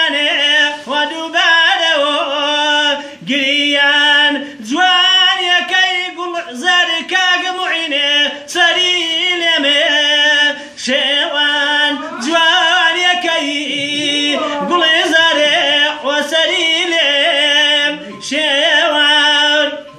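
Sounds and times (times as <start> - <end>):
man singing unaccompanied: 0.0 - 19.9.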